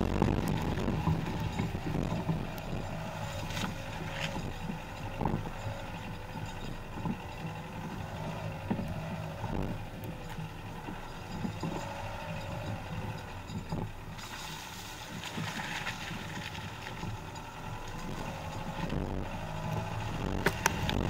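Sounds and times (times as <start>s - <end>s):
car engine and tyre rumble: 0.0s - 21.0s
suspension knocks over bumps: 0.0s - 21.0s.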